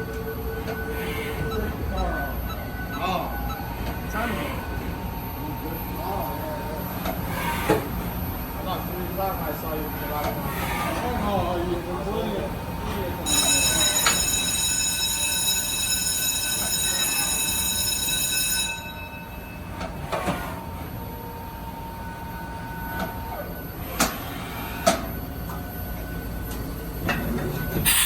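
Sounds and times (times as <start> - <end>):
machine high-pitched whine: 0.0 - 28.0.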